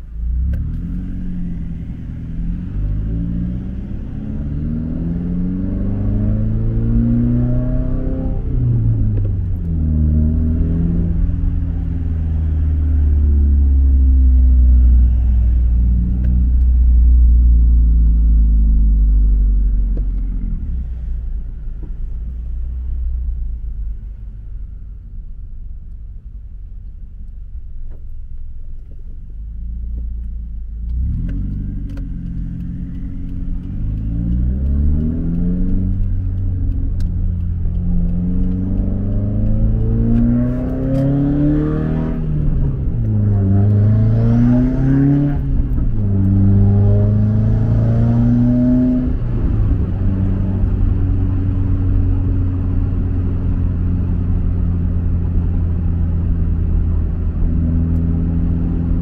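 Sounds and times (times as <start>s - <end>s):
car engine idling and accelerating: 0.0s - 59.0s.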